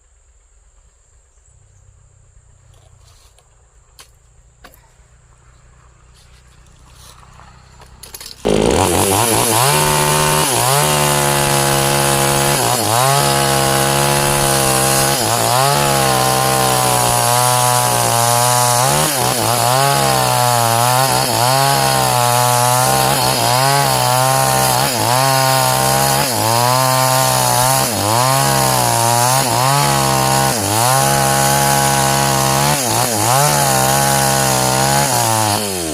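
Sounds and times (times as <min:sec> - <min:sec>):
chainsaw cutting wood: 0:06.1 - 0:35.9.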